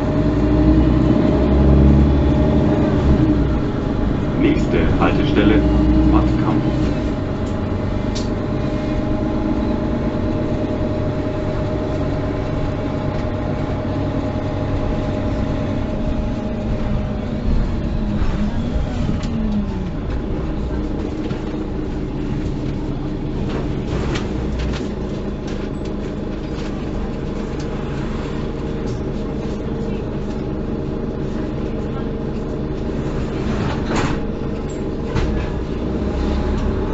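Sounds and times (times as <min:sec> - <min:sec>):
bus engine running: 0:00.0 - 0:36.9
road and tyre noise: 0:00.0 - 0:36.9.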